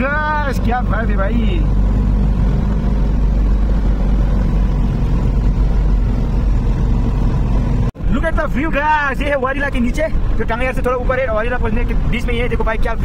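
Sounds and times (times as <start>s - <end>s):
diesel truck engine drone: 0.0s - 13.0s
road noise: 0.0s - 13.0s.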